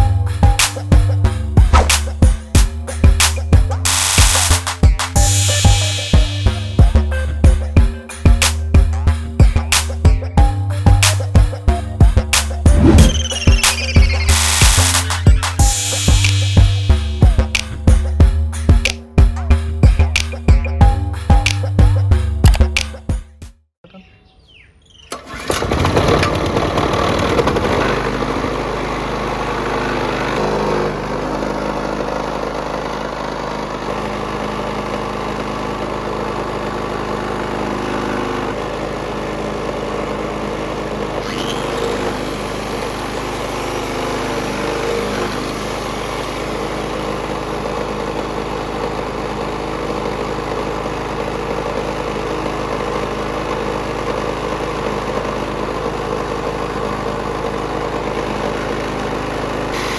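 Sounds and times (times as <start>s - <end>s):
petrol generator running: 0.0s - 22.9s, 25.2s - 59.9s.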